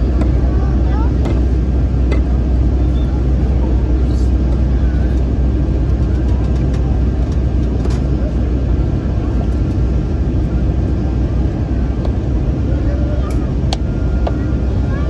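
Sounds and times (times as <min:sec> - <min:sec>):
airplane cabin roar: 0:00.0 - 0:15.0.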